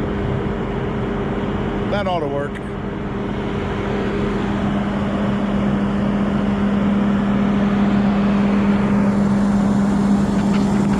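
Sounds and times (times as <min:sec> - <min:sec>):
drone propellers humming: 0:00.0 - 0:10.9.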